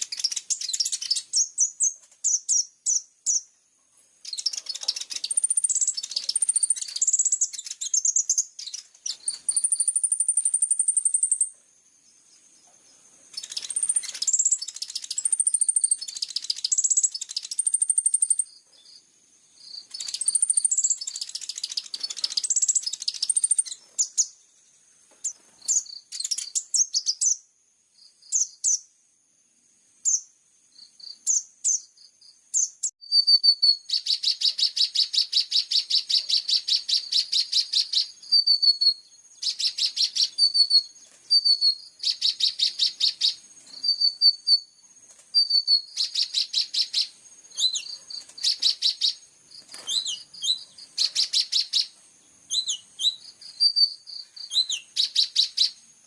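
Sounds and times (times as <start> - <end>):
bird singing chirps and trills: 0.0 - 3.6, 4.2 - 28.9, 30.0 - 56.0.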